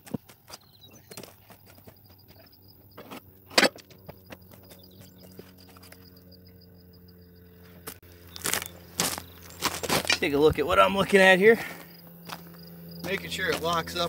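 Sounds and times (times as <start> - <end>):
footsteps crunching on gravel: 0.0 - 6.3, 7.6 - 14.0
high pulsing chirp: 0.5 - 14.0.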